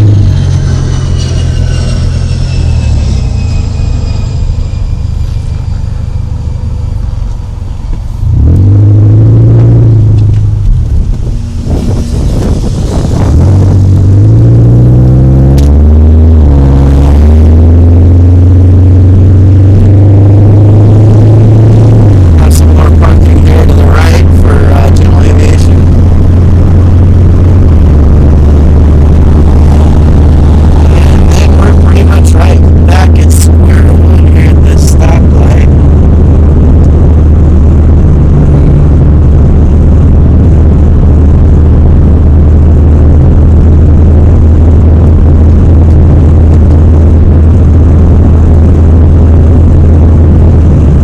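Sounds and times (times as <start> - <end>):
car engine accelerating: 0.0 - 51.0
road rumble: 0.0 - 51.0.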